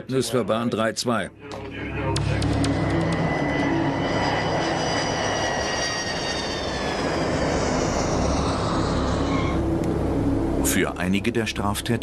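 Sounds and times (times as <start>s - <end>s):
jet engines with high whine: 1.4s - 11.6s.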